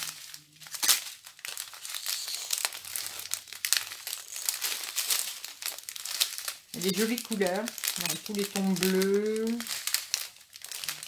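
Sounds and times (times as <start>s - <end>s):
plastic sachets crinkling: 0.0s - 11.0s.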